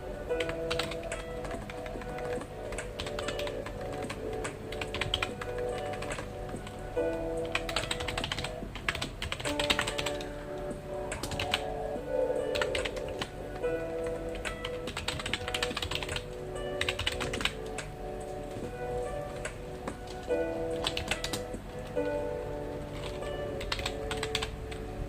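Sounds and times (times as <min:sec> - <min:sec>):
soft background music: 0:00.0 - 0:25.0
keyboard typing: 0:00.3 - 0:24.9.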